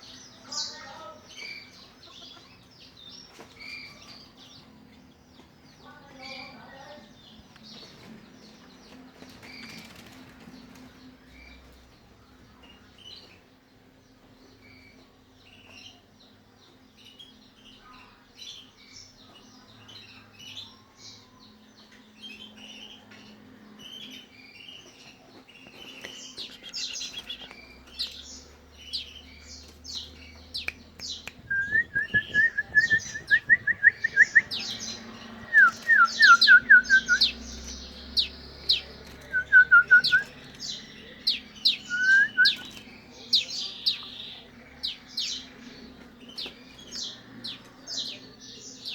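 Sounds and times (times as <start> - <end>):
canaries chirping and singing: 0.0 - 48.9.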